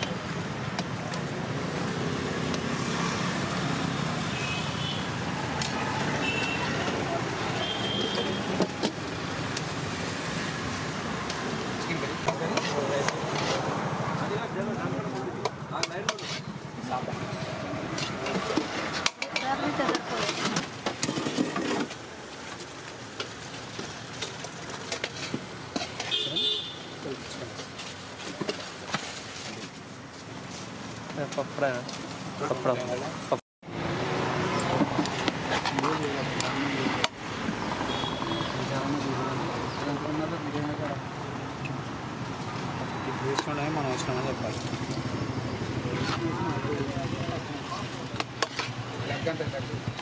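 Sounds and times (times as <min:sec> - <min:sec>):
road traffic rumbling: 0:00.0 - 0:50.0.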